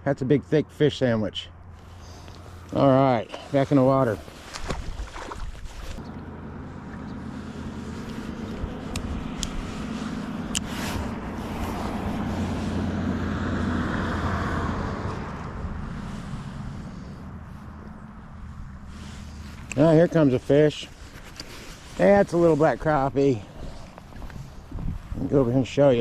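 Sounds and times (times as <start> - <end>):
passing motor engine hum: 0.6 - 26.0.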